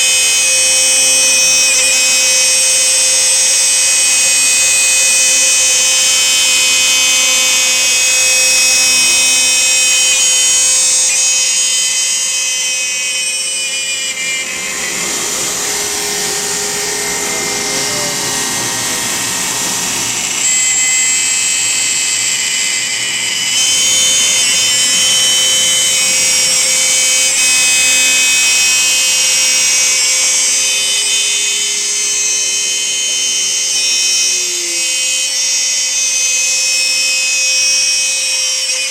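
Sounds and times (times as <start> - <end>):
cnc router whine: 0.0 - 38.9.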